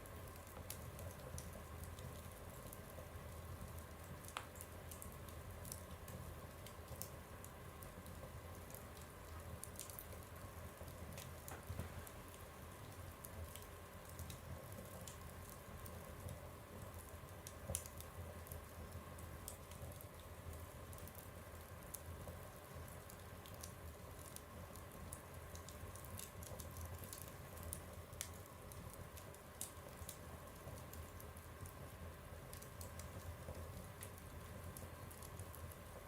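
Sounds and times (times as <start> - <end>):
wood fire crackling in a stove: 0.0 - 36.0.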